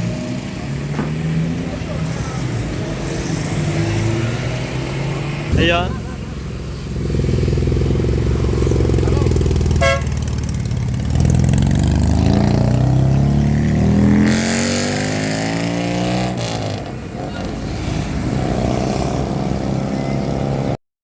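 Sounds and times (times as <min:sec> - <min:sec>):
vehicle engine accelerating: 0:00.0 - 0:20.8.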